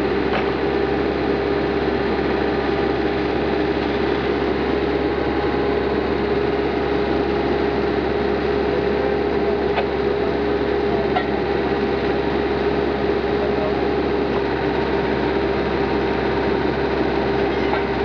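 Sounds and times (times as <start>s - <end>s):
drill rig running: 0.0s - 18.0s.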